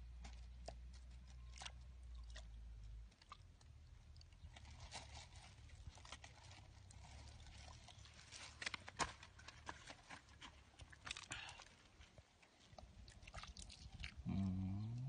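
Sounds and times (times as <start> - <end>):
wet squelches in mud: 0.2 - 15.0.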